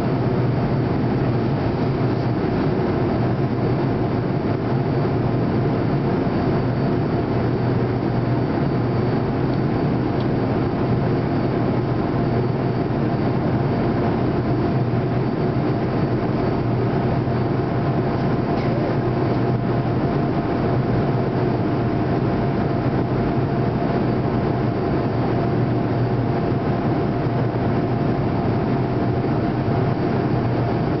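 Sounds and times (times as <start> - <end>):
aircraft cabin drone: 0.0 - 31.0.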